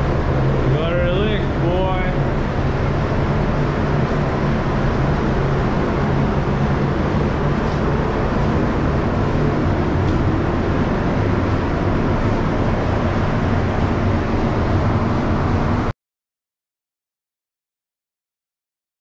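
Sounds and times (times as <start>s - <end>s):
machine drone: 0.0s - 15.9s.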